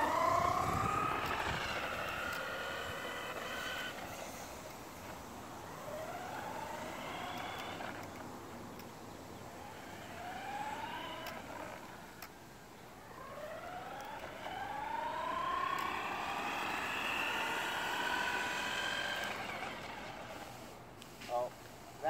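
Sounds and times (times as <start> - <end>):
toy car motor whining: 0.0 - 8.9, 9.5 - 12.4, 13.0 - 22.0.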